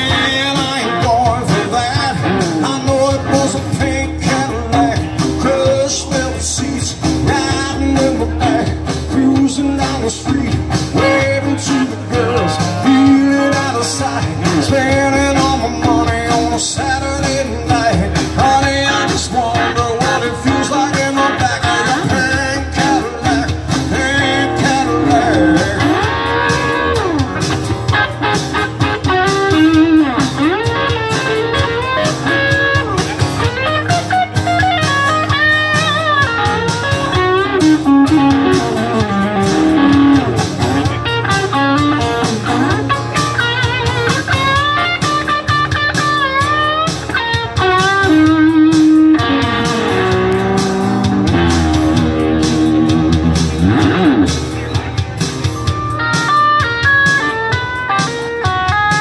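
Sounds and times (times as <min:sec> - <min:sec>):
electric guitar solo: 0:00.0 - 0:09.1, 0:09.9 - 0:18.0, 0:18.6 - 0:59.0
strummed acoustic guitar: 0:00.0 - 0:59.0.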